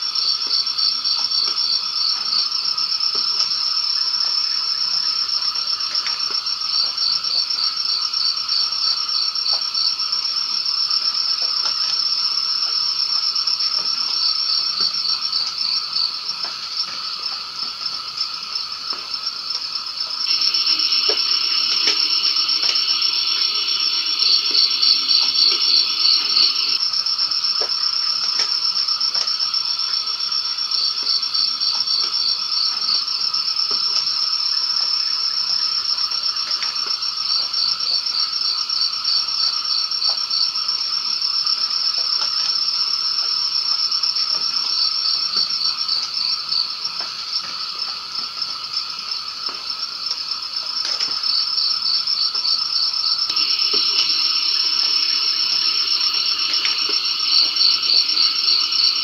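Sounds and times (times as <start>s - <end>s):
high-pitched insect trill: 0.0s - 59.0s
low drone of frog calls: 0.0s - 59.0s.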